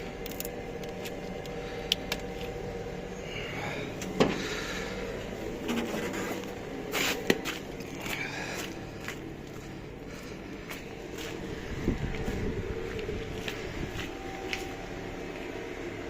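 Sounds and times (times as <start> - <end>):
refrigeration unit engine running: 0.0 - 16.0.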